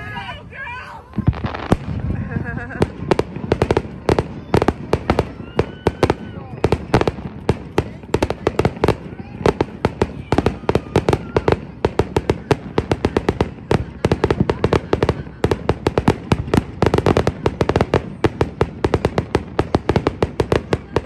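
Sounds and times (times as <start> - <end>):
fireworks bursting with sharp bangs: 0.7 - 21.0.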